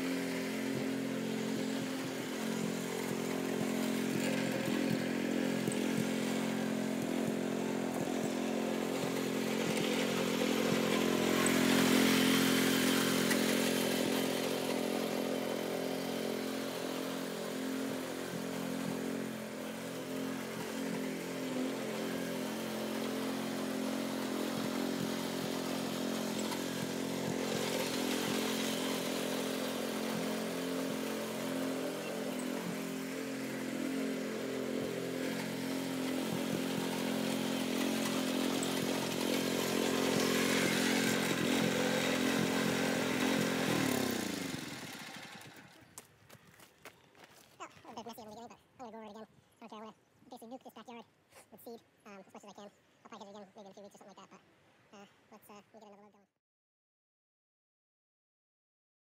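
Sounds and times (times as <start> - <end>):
garden tractor engine running: 0.0 - 54.4.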